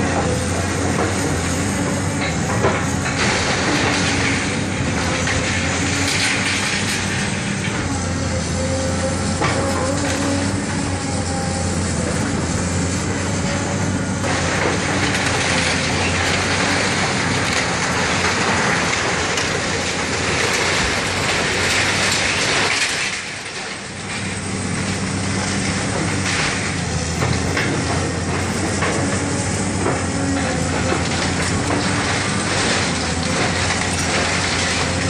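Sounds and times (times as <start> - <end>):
debris crunching and scraping: 0.0 - 35.0
diesel engine running: 0.0 - 35.0.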